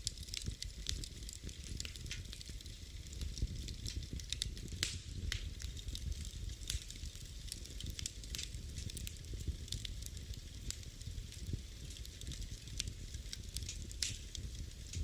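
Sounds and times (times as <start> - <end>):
flames rumbling: 0.0 - 15.0
wood fire crackling and popping: 0.0 - 15.0.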